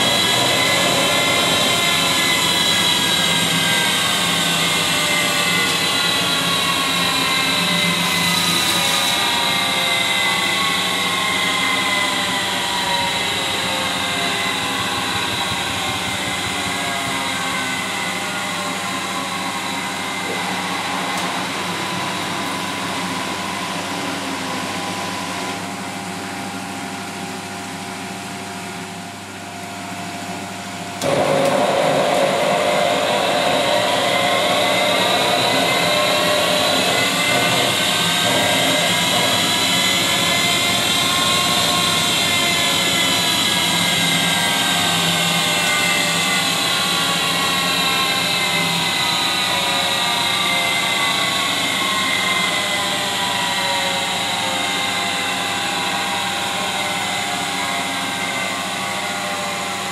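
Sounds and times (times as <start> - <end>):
washing machine spin winding down: 0.0 - 59.9.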